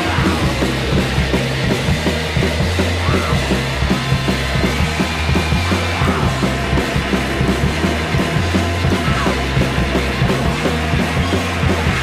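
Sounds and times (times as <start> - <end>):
driving bass line: 0.0 - 12.0
indie rock band: 0.0 - 12.0.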